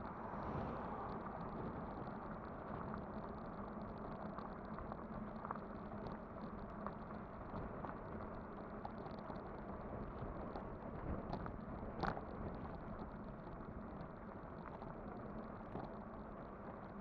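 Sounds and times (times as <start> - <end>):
low steady hum: 0.0 - 17.0
wind and tyre rumble: 0.0 - 17.0.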